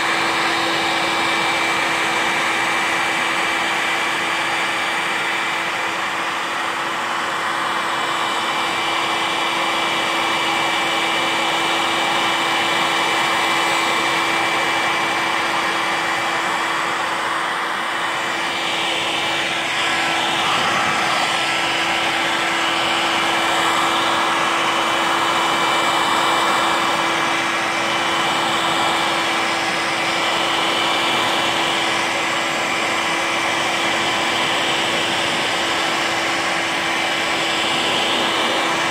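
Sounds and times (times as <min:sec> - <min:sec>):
heat gun blowing: 0:00.0 - 0:38.9.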